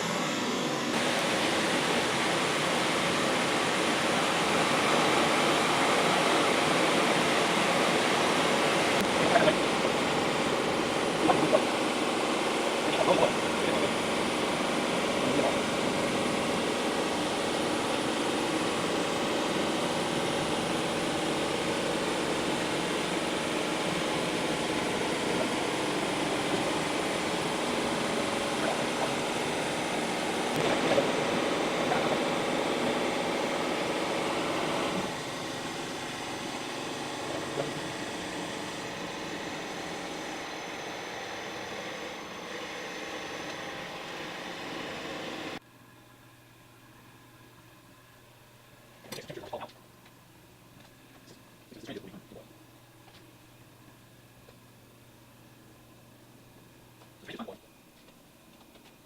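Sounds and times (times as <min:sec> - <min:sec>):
stove burner flames hissing: 0:00.0 - 0:59.0.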